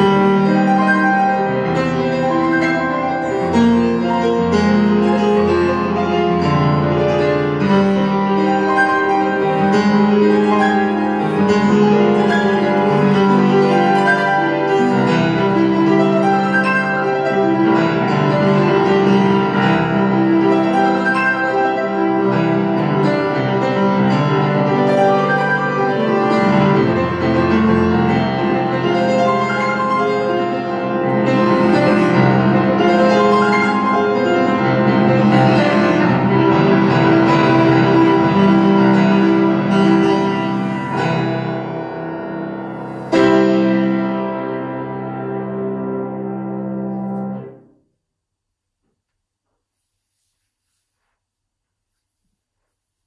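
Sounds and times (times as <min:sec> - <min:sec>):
classical grand piano playing: 0:00.0 - 0:47.8.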